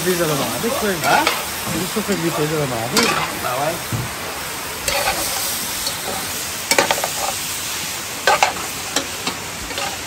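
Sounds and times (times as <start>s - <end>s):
pork sizzling in fat: 0.0s - 10.0s.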